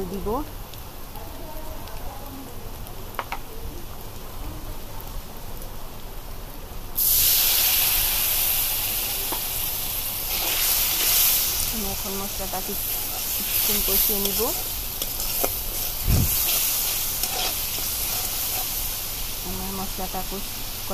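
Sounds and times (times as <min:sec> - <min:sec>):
onions and spices frying in oil: 0:00.0 - 0:20.9.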